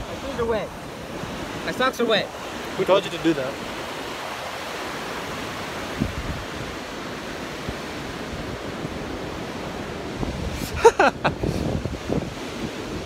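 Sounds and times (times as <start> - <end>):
ocean surf on sandy beach: 0.0 - 13.0.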